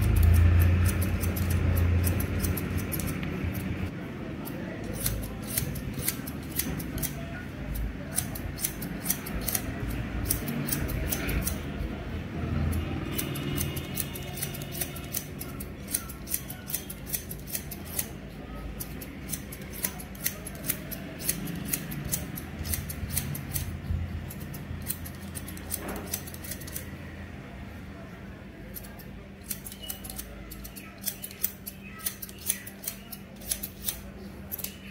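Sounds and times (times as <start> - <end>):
scissors snipping hair: 0.0 - 11.8, 12.7 - 26.9, 28.7 - 34.9.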